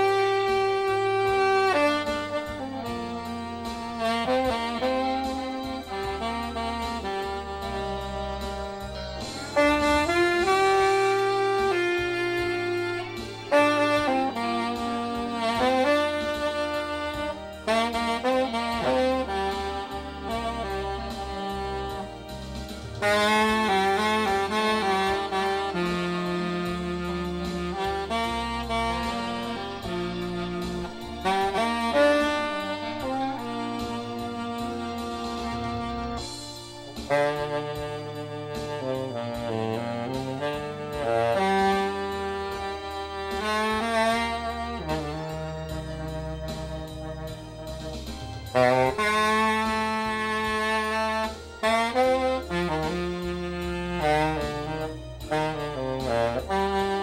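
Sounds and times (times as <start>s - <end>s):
bass notes: 0.0s - 57.0s
saxophone melody: 0.0s - 57.0s.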